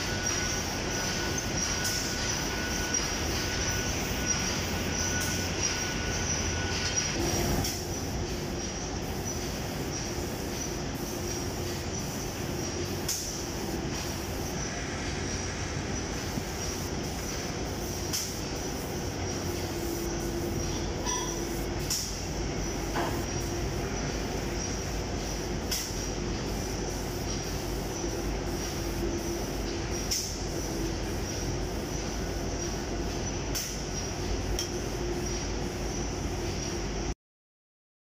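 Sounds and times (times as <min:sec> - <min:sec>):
machinery rumble with hiss: 0:00.0 - 0:37.1
faint machine whine: 0:00.0 - 0:37.2.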